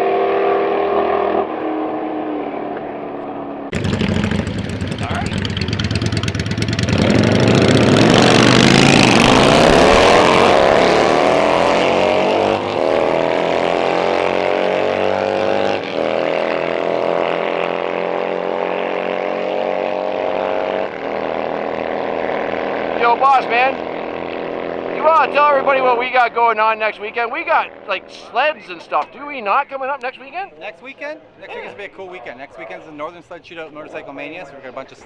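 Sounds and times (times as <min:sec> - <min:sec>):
drag racing vehicle accelerating: 0:00.0 - 0:28.5.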